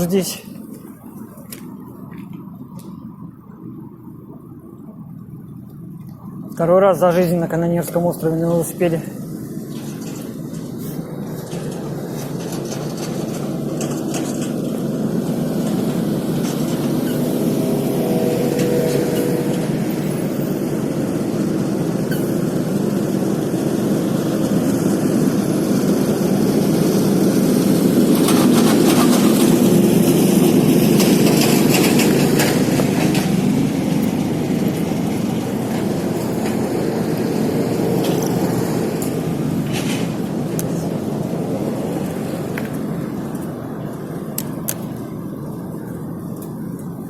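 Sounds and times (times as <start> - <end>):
bicycle road noise: 0.0 - 47.0
rushing wind: 6.6 - 47.0.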